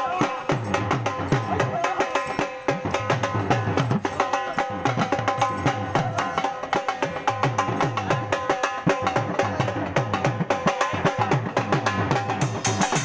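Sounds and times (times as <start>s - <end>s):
dhol drumming: 0.0s - 13.0s.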